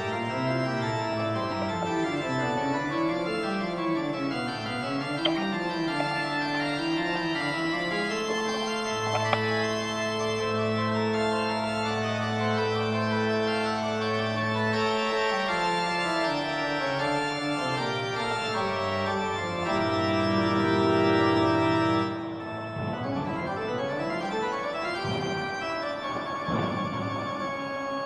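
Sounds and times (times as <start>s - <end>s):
slow organ-like chords: 0.0s - 28.0s.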